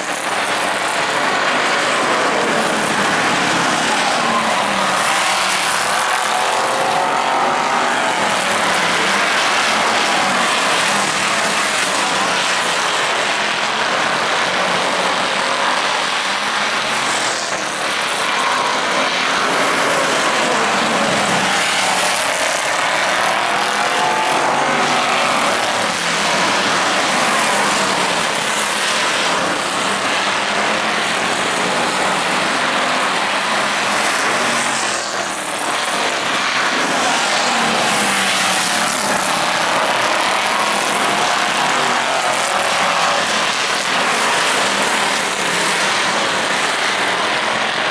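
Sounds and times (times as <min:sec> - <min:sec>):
race car engines passing: 0:00.0 - 0:47.9.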